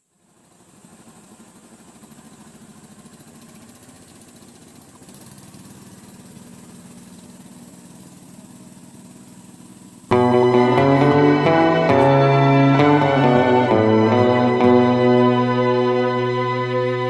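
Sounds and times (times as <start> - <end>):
small engine running: 0.1 - 17.0.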